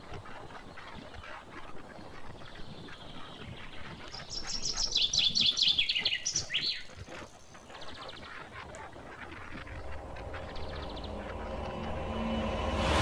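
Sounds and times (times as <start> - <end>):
bird chirping: 0.6 - 13.0.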